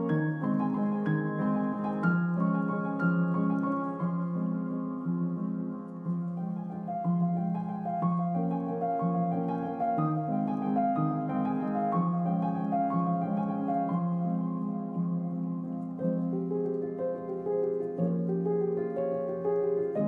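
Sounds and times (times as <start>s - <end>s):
soft slow piano music: 0.0s - 20.0s.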